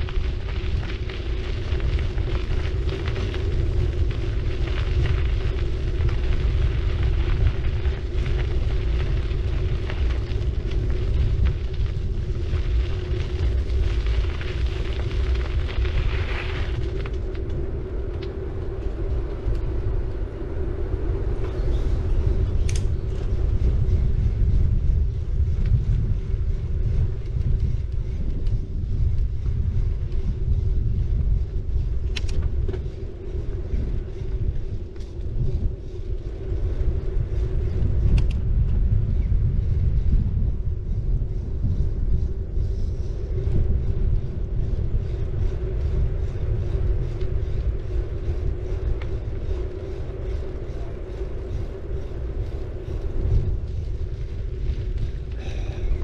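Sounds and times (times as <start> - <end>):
steady hum: 0.0 - 56.0
wind and road rumble: 0.0 - 56.0.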